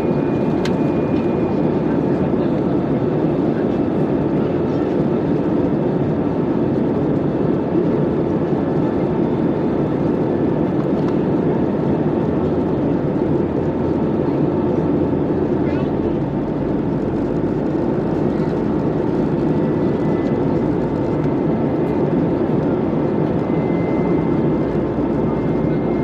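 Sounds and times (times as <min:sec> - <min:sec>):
airplane cabin engine noise: 0:00.0 - 0:26.0.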